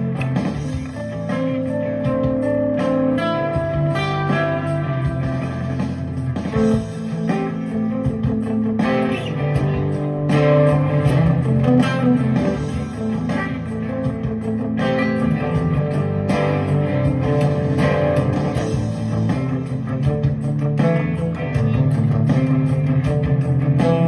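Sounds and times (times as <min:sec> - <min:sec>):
backing track with steady beat: 0:00.0 - 0:24.0
electric guitar playing: 0:00.0 - 0:24.0.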